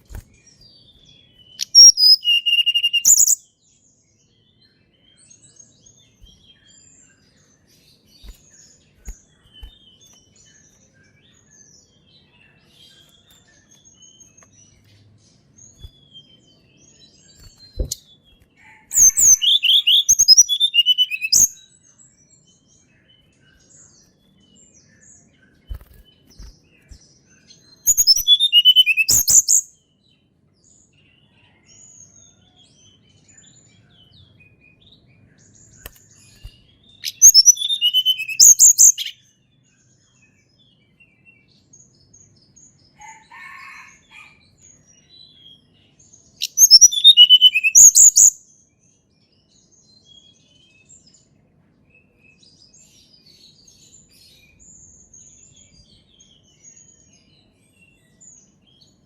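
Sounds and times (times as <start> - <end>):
faint high bird chirps: 0.0 - 59.0
songbird whistled song: 0.0 - 59.0.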